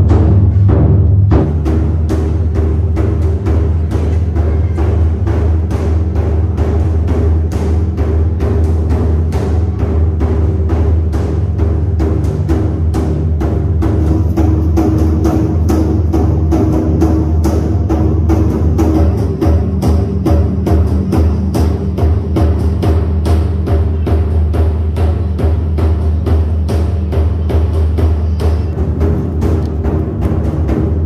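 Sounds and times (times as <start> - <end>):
rapid drumbeat: 0.0 - 31.0.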